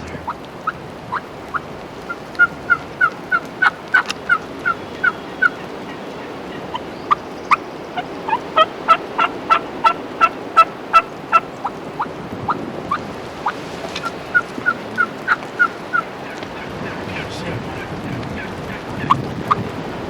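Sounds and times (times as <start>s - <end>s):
turkey clucks: 0.0s - 20.0s
turkeys yelping: 0.0s - 20.0s.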